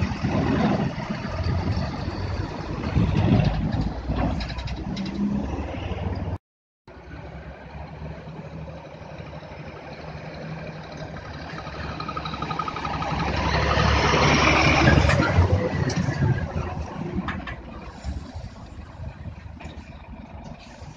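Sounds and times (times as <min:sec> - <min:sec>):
fire engine diesel engine passing: 0:00.0 - 0:20.9.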